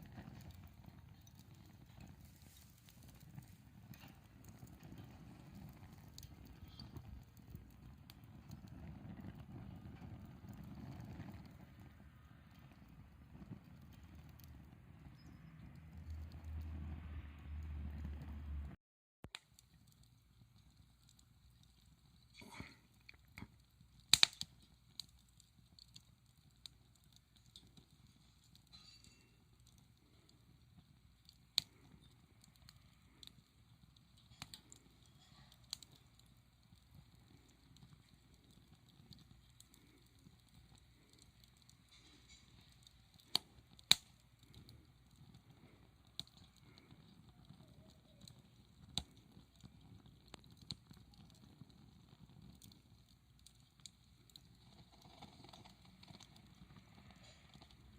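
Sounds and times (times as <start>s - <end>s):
burning wood popping: 0.0s - 18.6s, 19.2s - 57.9s
wood fire crackling: 0.0s - 57.9s.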